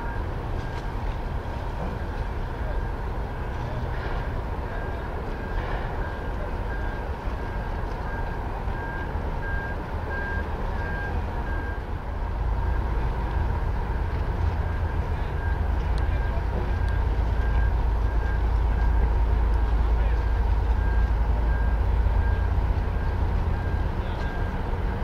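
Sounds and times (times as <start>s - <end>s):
steady low rumble: 0.0s - 25.0s
vehicle reversing alarm beeping: 0.0s - 25.0s.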